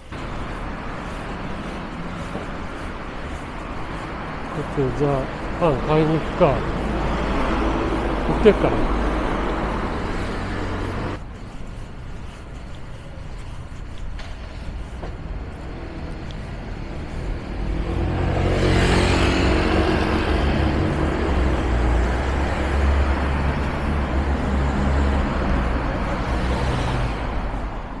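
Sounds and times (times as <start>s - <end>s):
vehicle engine deep rumble: 0.0s - 27.9s.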